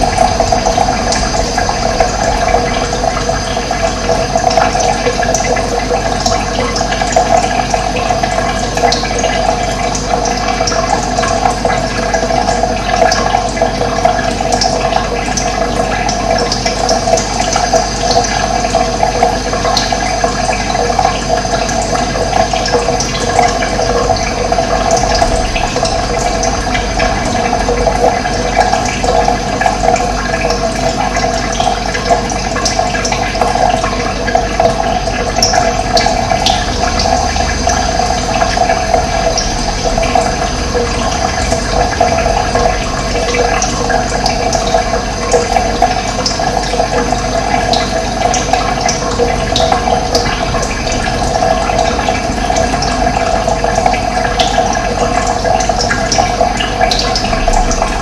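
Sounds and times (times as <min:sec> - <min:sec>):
running water flowing: 0:00.0 - 0:58.0.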